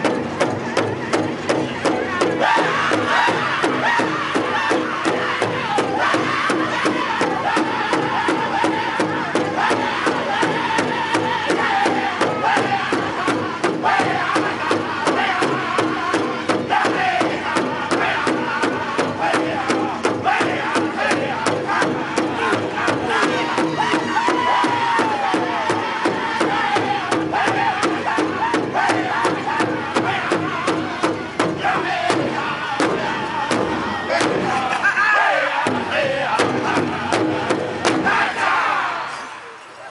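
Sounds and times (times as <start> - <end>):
large hide drum beating: 0.0 - 34.7, 35.6 - 38.4
group singing high-pitched unison: 2.0 - 39.9.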